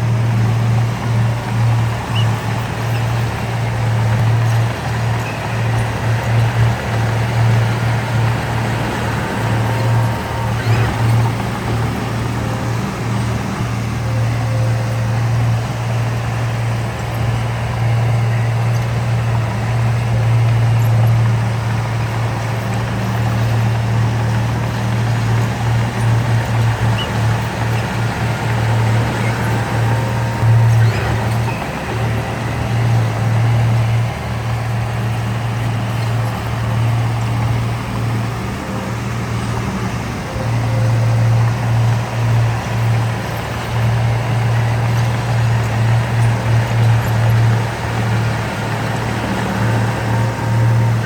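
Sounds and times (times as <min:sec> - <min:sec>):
heavy diesel machinery droning: 0:00.0 - 0:51.0.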